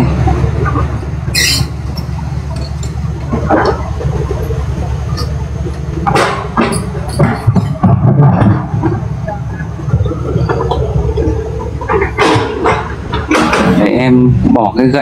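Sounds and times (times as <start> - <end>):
excavator diesel rumble: 0.0 - 15.0.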